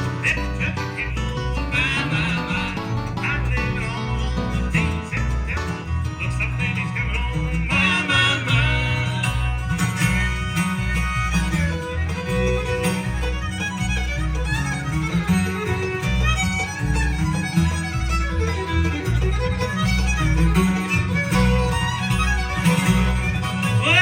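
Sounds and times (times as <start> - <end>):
fiddle: 0.0 - 24.0
guitar: 0.0 - 24.0
steady bass beat: 0.0 - 24.0.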